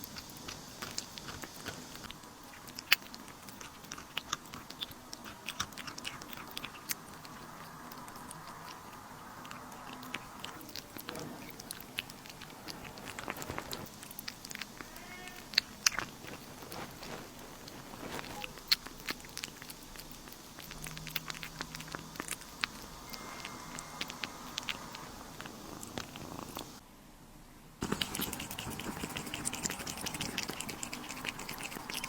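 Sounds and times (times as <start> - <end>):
pet chewing food: 0.0 - 26.8, 27.8 - 32.0.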